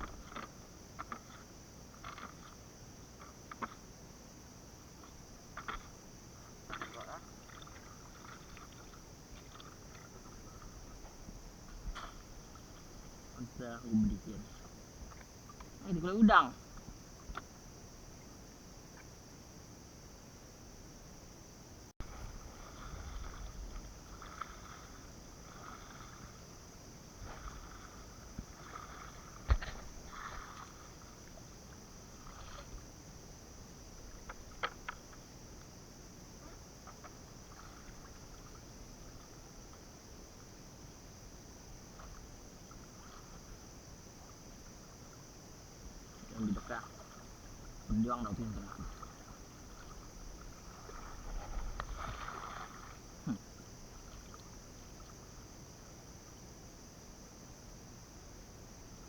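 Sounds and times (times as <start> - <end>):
water sloshing and splashing: 0.0 - 3.9, 5.0 - 17.5, 22.0 - 55.5.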